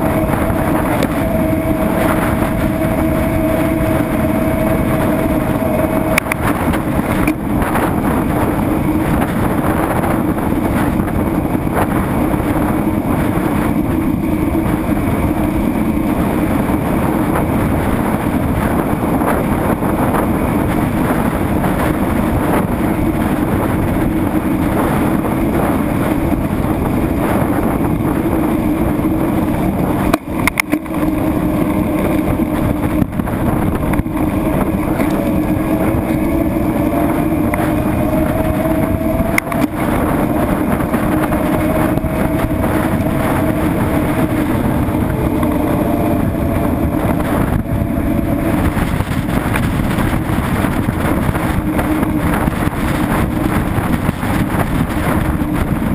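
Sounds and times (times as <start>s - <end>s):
vehicle running hum: 0.0s - 55.9s
wind and road noise: 0.0s - 55.9s.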